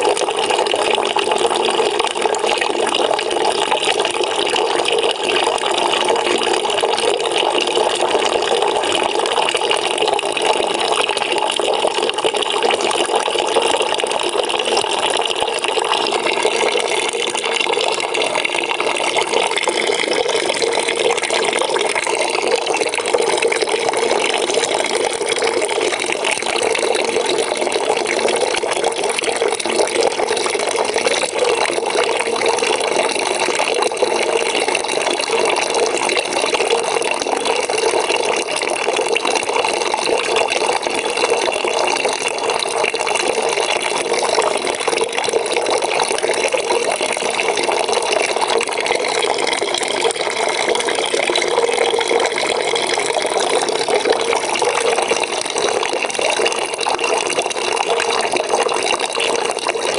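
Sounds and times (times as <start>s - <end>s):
water pouring into a bucket: 0.0s - 59.9s.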